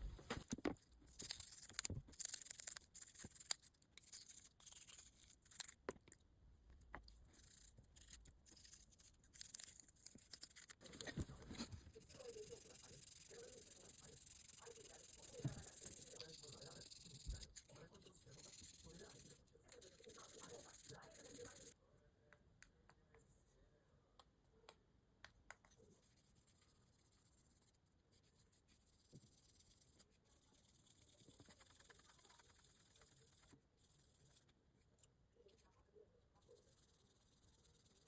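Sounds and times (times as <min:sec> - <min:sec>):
faint scratching: 0:00.0 - 0:05.9, 0:07.1 - 0:21.8, 0:25.7 - 0:38.0.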